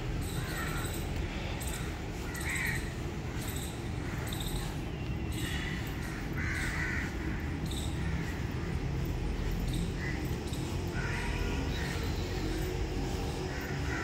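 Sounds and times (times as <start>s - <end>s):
crows cawing: 0.2s - 4.7s, 5.3s - 14.0s.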